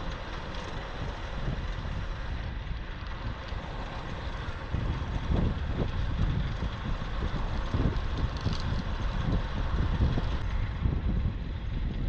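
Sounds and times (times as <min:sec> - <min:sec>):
bicycle tyres rumbling on road: 0:00.0 - 0:12.0
wind buffeting microphone: 0:00.0 - 0:12.0.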